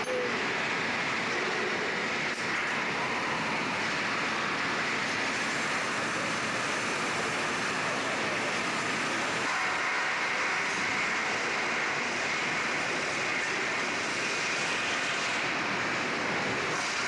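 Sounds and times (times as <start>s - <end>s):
repair shop machinery din: 0.0s - 17.0s.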